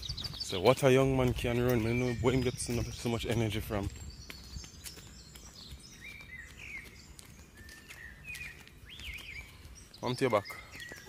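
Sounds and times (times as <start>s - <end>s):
birds chirping: 0.0s - 11.0s
faint outdoor background noise: 0.0s - 11.0s.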